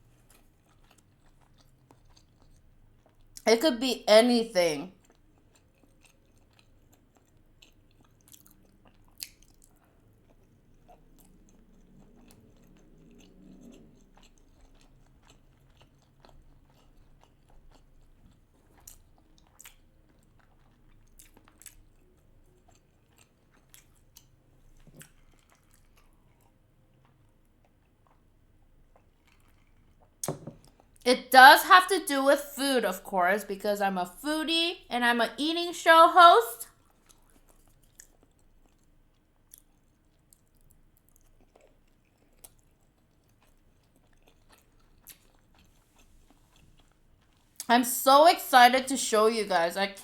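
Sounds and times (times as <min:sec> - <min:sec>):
person chewing: 0:00.2 - 0:03.4, 0:05.0 - 0:31.0, 0:36.8 - 0:47.7.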